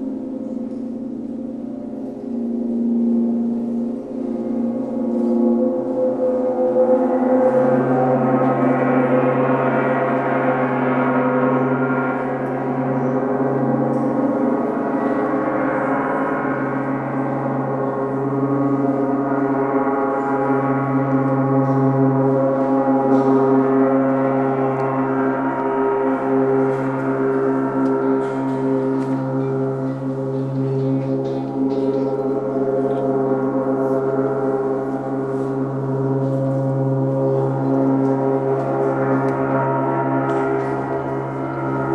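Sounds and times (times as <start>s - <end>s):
deep hum: 0.0s - 41.9s
gongs ringing: 0.0s - 41.9s.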